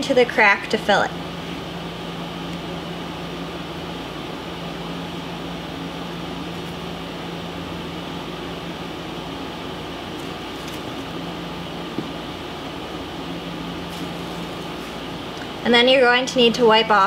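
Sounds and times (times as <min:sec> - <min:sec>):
background hum: 0:00.0 - 0:17.0.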